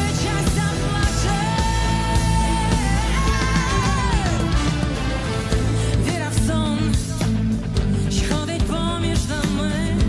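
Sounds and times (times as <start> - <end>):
woman singing: 0.0 - 5.0, 5.8 - 10.0
live pop-rock band: 0.0 - 10.0.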